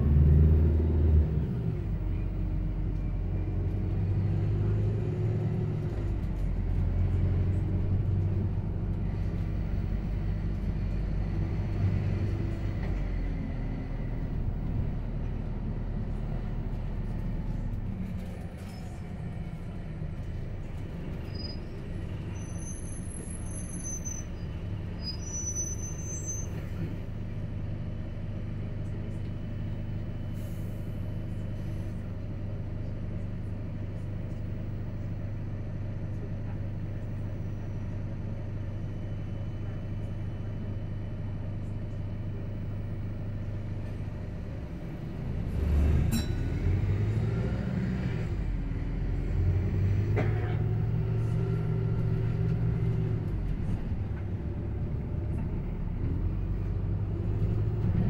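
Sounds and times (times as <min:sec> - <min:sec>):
bus engine accelerating: 0:00.0 - 0:58.0
bus low hum: 0:00.0 - 0:58.0.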